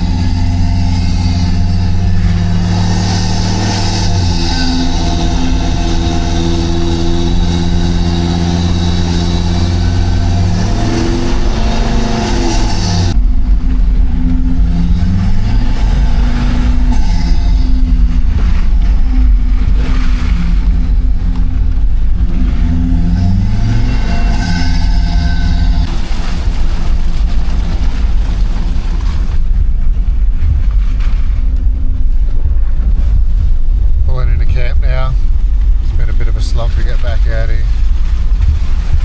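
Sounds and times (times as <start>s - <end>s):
vehicle engine while driving: 0.0s - 39.0s.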